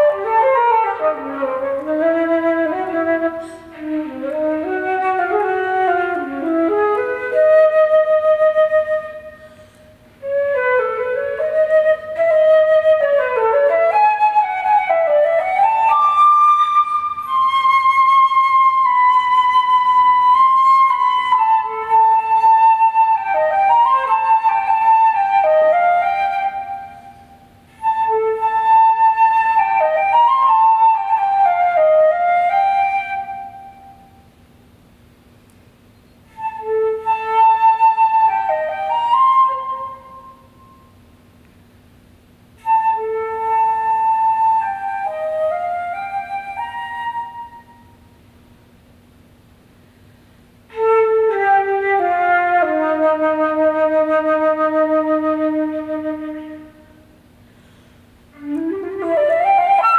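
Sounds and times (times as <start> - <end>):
solo flute melody: 0.0 - 34.4, 36.0 - 41.3, 42.6 - 48.3, 50.7 - 57.4, 58.3 - 59.9.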